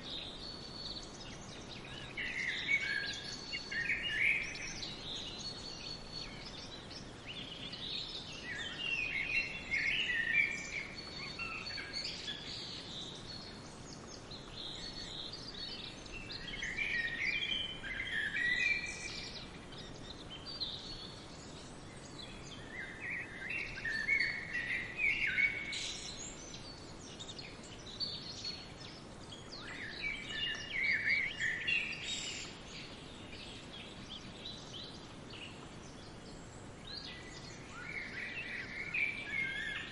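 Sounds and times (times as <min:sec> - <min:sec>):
songbirds singing: 0:00.0 - 0:39.9
steady background hiss: 0:00.0 - 0:39.9.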